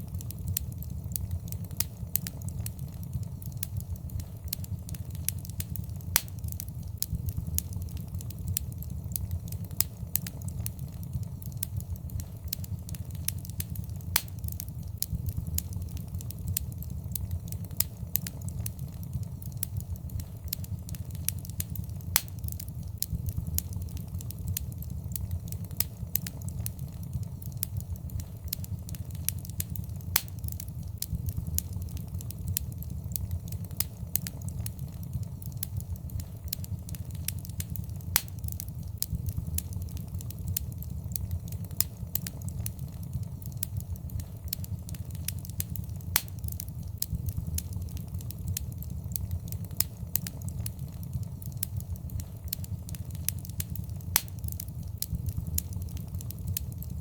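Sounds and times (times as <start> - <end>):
fire pops and snaps: 0.0 - 57.0
low rumble of flames: 0.0 - 57.0
wood fire crackling: 0.0 - 57.0.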